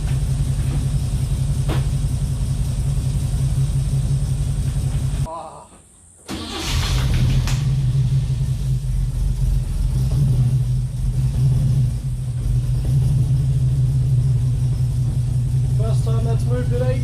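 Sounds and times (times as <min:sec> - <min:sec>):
car engine low rumble: 0:00.0 - 0:05.3, 0:06.5 - 0:17.0.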